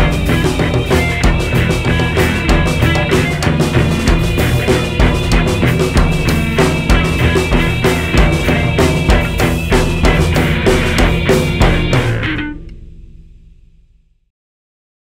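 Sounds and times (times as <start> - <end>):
experimental jazz band: 0.0 - 13.9
pounding drum kit: 0.0 - 14.0.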